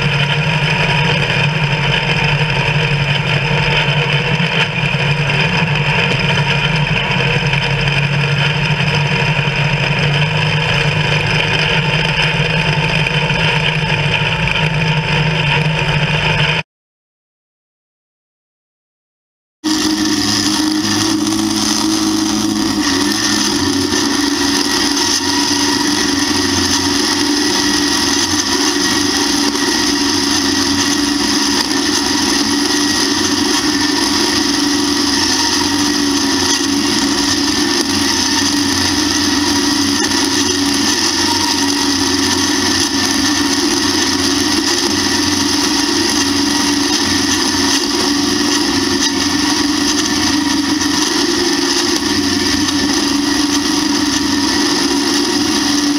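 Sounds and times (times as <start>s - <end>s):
corn picker working: 0.0s - 16.6s, 19.6s - 55.9s
tractor engine under load: 0.0s - 16.6s, 19.6s - 55.9s.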